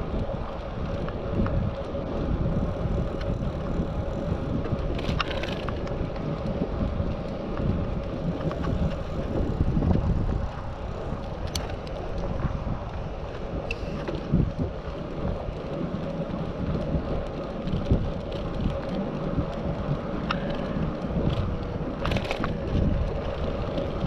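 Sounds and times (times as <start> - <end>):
tyre and road noise: 0.0 - 24.0
wind buffeting microphone: 0.0 - 24.0
small clicks and rattles: 0.1 - 10.2, 11.1 - 24.0.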